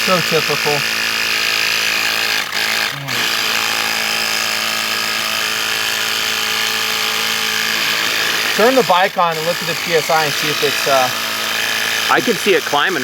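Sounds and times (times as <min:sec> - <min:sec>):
electric tyre pump running: 0:00.0 - 0:13.0.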